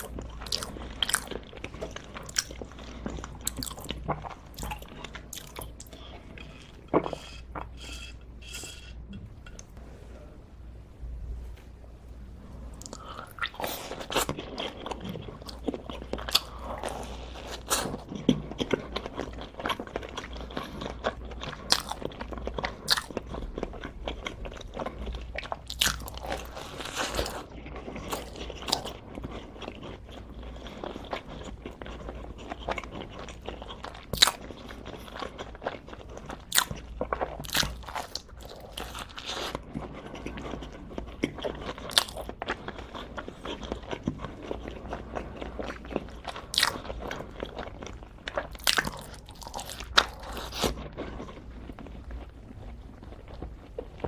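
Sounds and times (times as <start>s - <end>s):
person chewing crunchy food: 0.0s - 9.7s, 12.8s - 54.0s.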